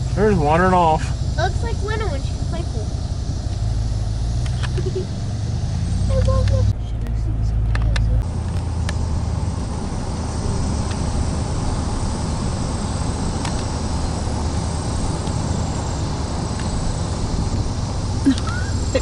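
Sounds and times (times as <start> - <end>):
truck engine and tyres droning: 0.0 - 19.0.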